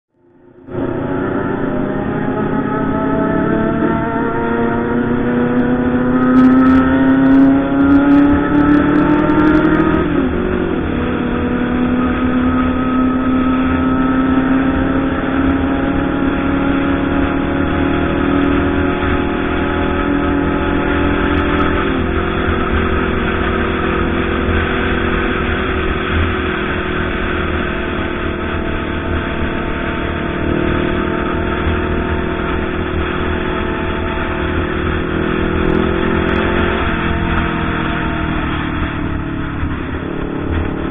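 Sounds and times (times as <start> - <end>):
motorcycle engine running: 0.1 - 40.9.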